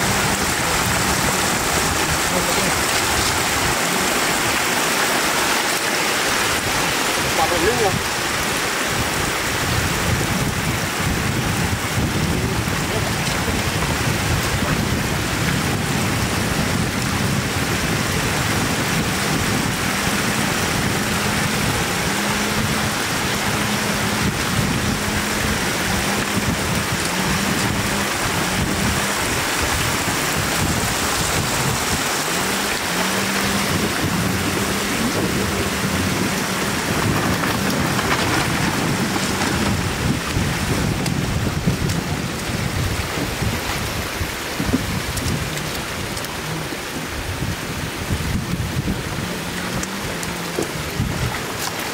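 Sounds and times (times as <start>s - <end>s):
water rushing over road edge: 0.0s - 51.9s.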